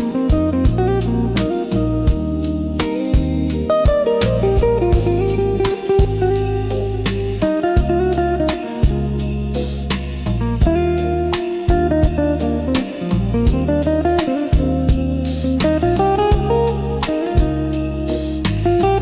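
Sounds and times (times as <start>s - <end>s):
bass line: 0.0s - 19.0s
light steady beat: 0.0s - 19.0s
plucked guitar melody: 0.0s - 19.0s.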